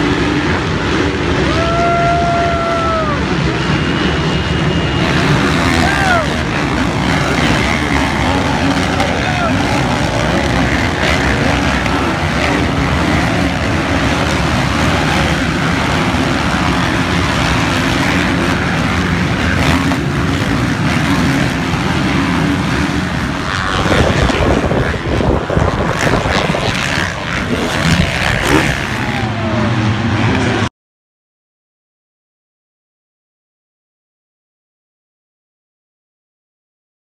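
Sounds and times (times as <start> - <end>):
motocross bikes racing: 0.0 - 30.7.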